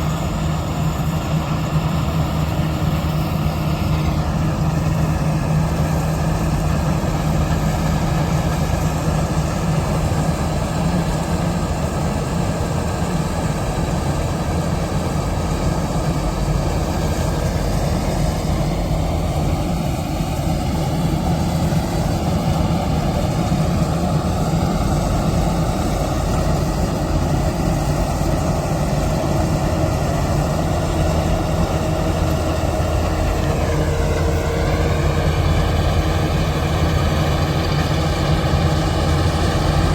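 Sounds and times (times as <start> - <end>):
combine harvester engine drone: 0.0 - 39.9
dense mechanical noise: 0.0 - 39.9.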